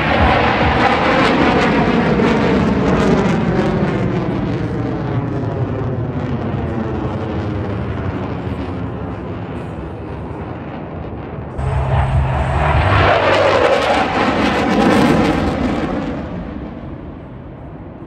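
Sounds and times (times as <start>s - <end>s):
fighter jet flying overhead: 0.0s - 18.0s.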